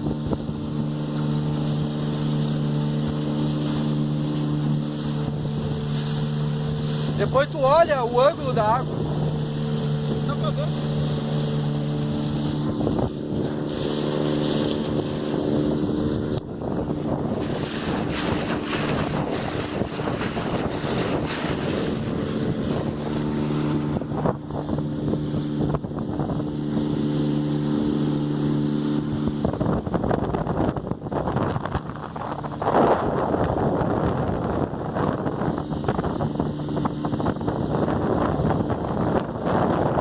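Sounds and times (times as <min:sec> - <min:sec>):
boat motor humming: 0:00.0 - 0:40.0
rushing water: 0:00.0 - 0:40.0
wind on microphone: 0:00.0 - 0:40.0.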